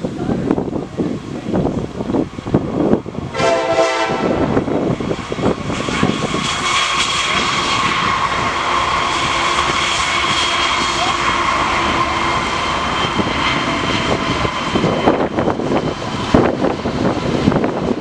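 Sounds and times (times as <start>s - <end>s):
diesel locomotives passing: 0.0s - 18.0s
locomotive whine: 0.0s - 18.0s.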